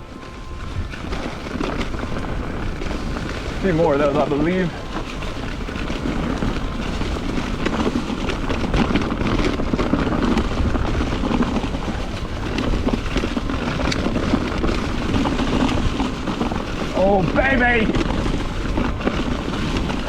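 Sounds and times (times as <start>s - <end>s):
bike rattles and knocks: 0.0s - 20.0s
bike tyres rolling over dirt: 0.0s - 20.0s
wind buffeting microphone: 0.0s - 20.0s.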